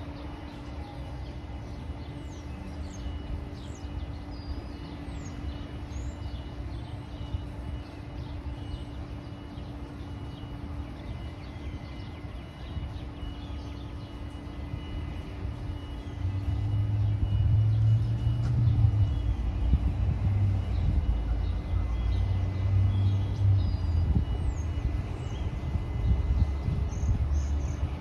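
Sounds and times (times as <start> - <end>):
low outdoor rumble: 0.0 - 28.0
small birds chirping: 0.0 - 28.0.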